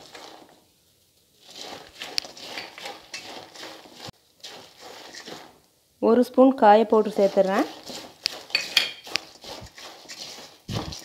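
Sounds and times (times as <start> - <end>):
spatula stirring in metal pan: 0.0 - 0.6, 1.4 - 5.7, 6.7 - 11.0.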